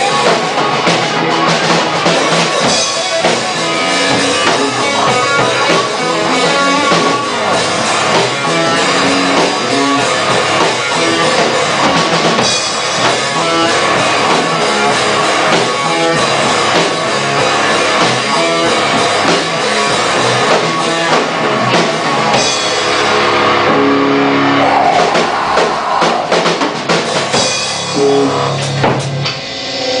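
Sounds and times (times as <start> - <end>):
rock band playing loudly: 0.0 - 30.0.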